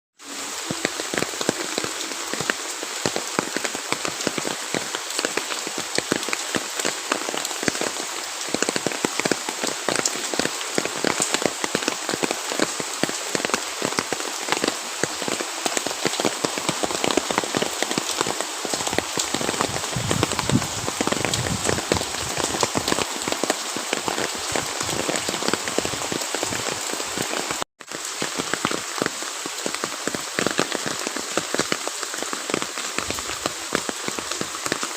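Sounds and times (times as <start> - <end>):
rain falling: 0.2 - 34.9
raindrops ticking on hard surface: 0.8 - 34.9.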